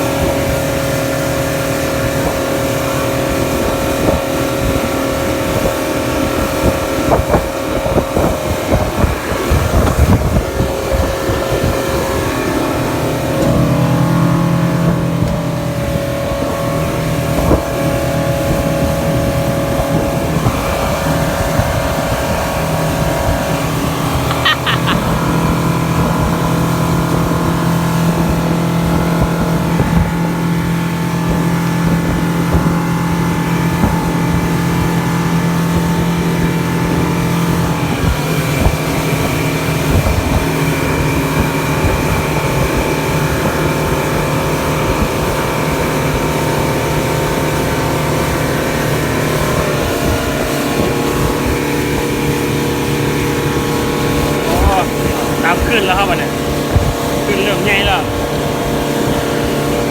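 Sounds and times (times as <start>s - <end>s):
motorboat engine running: 0.0s - 59.9s
rushing water: 0.0s - 59.9s
rushing wind: 0.0s - 59.9s.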